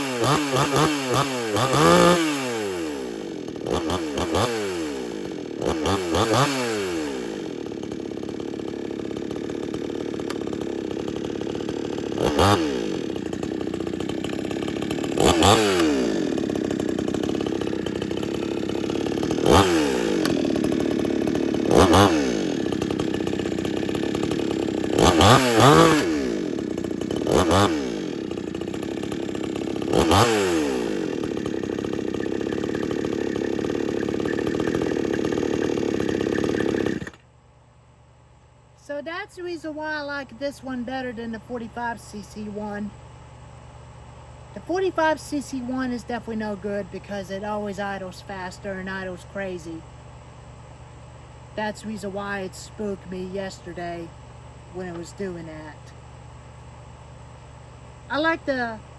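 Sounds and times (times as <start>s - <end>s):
chainsaw idling and revving: 0.0s - 37.3s, 38.7s - 58.9s.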